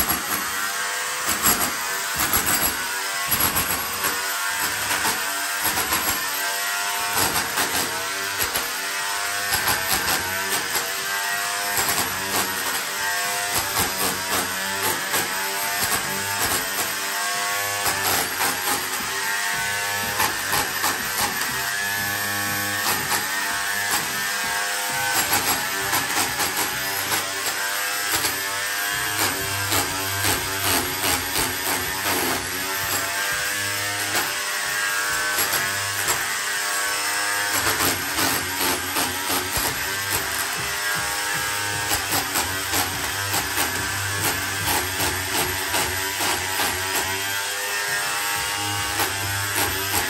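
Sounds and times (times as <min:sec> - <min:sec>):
electric hammer motor humming: 0:00.0 - 0:50.0.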